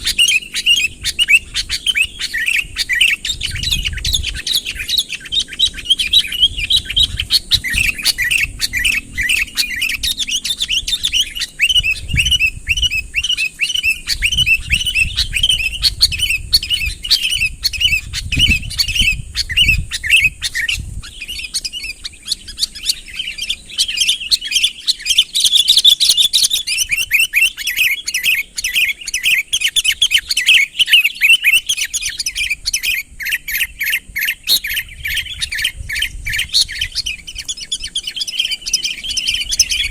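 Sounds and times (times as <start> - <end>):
bird singing bubbly chirps: 0.0 - 39.9.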